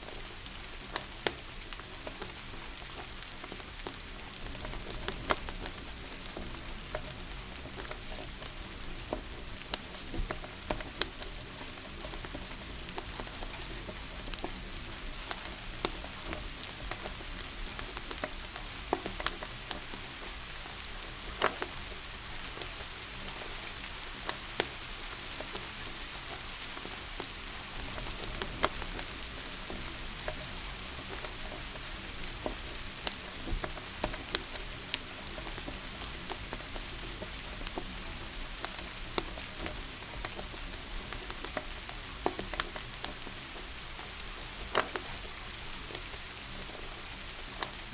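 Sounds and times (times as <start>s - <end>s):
steady rain hiss: 0.0s - 47.9s
wood fire crackling and popping: 0.0s - 47.9s.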